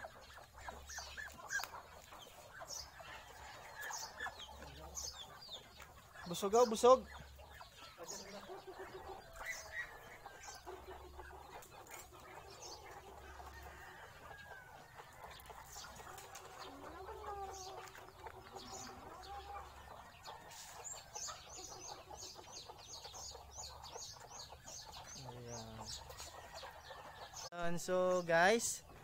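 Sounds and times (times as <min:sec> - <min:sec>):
chickens clucking softly: 0:00.0 - 0:29.0.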